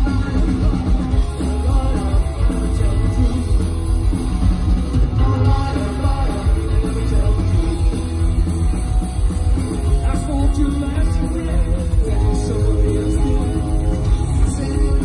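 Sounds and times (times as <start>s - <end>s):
bass guitar: 0.0s - 15.0s
distorted electric guitar: 0.0s - 15.0s
drum kit: 0.0s - 15.0s.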